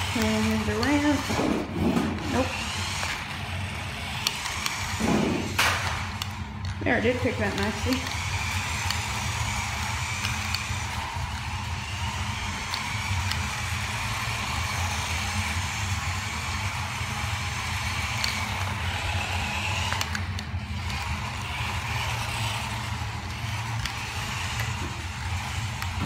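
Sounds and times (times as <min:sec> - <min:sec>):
steady low hum: 0:00.0 - 0:26.0
toy truck electric motor whining: 0:00.0 - 0:26.0.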